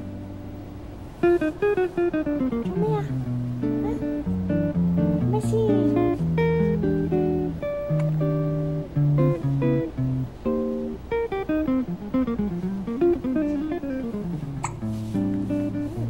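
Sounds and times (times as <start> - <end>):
guitar playing plucked notes: 0.0 - 16.0.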